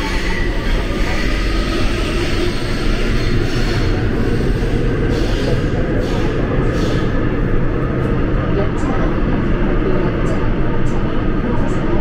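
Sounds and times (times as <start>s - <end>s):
subway train rumbling on rails: 0.0s - 12.0s.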